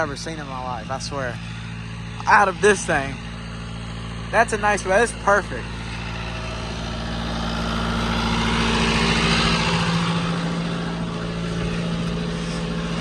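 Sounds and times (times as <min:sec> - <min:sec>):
tractor engine hum: 0:00.0 - 0:13.0.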